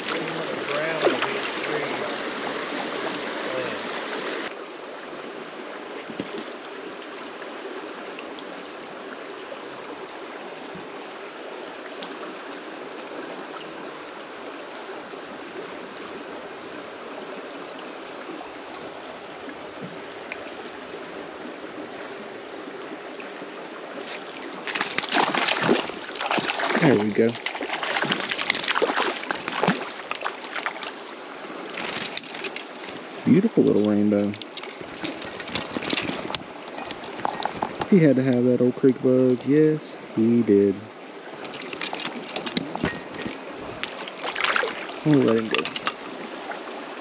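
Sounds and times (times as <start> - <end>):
creek water running: 0.0 - 47.0.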